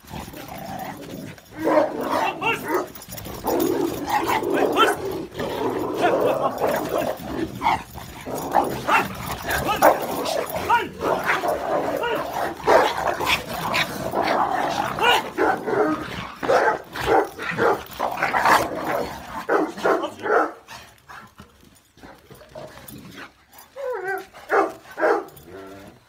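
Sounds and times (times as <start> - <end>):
dogs barking and yapping: 0.0 - 26.0.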